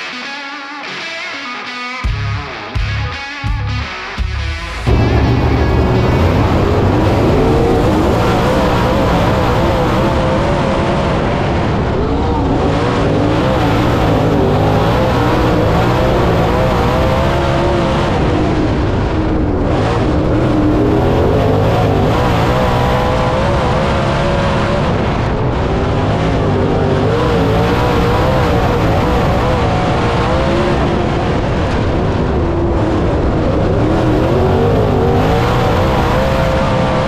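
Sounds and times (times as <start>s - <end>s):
noise of car at speed: 2.1s - 37.0s
race car engine revving: 2.2s - 37.0s.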